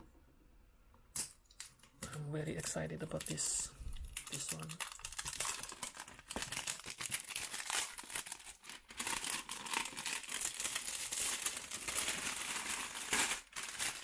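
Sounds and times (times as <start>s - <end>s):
plastic wrapping crinkling: 1.6s - 14.0s.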